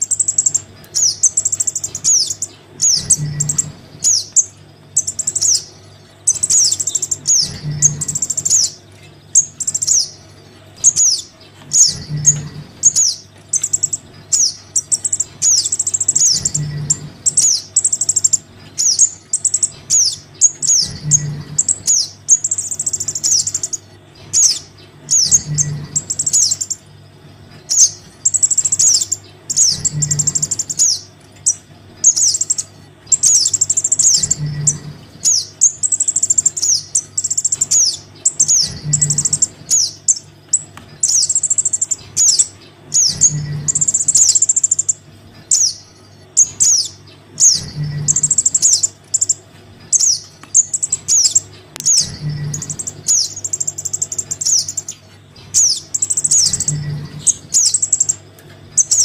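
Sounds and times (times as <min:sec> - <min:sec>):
faint low hum: 0:00.0 - 0:59.0
nestlings begging chirps: 0:00.0 - 0:59.0.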